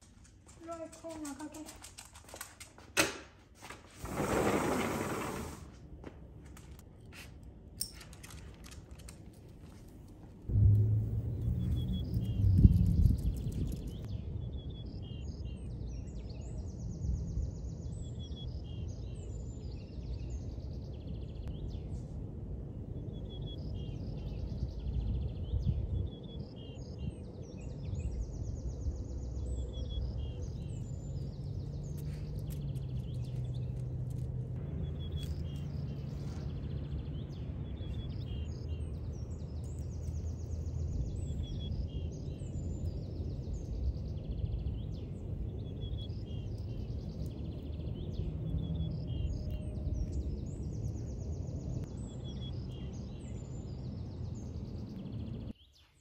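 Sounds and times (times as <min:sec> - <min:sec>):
low outdoor rumble: 0:05.7 - 0:18.1, 0:20.3 - 0:55.6
small birds chirping: 0:09.0 - 0:22.0, 0:23.0 - 0:56.0.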